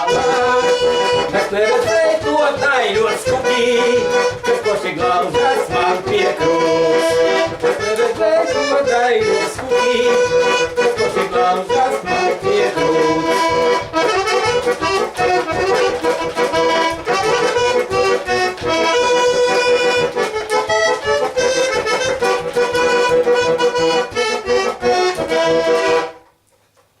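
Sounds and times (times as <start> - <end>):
button accordion melody: 0.0 - 26.4.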